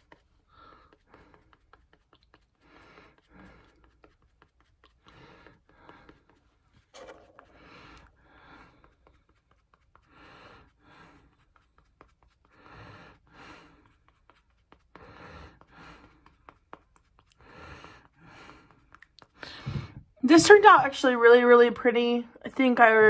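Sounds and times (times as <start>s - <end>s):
powder puff patting skin: 0.0s - 19.6s.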